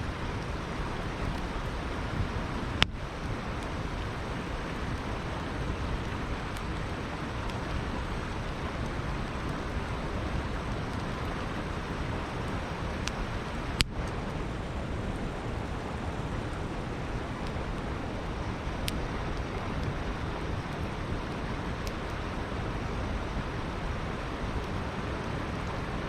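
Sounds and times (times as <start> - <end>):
campfire crackling: 0.0 - 26.0
river water flowing: 0.0 - 26.0.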